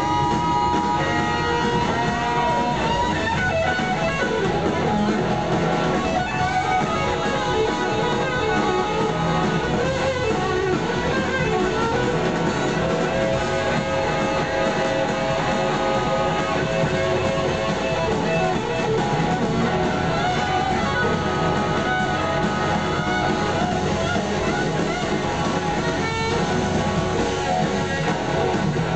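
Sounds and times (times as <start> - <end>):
electric guitars: 0.0 - 28.9
live rock band playing: 0.0 - 28.9.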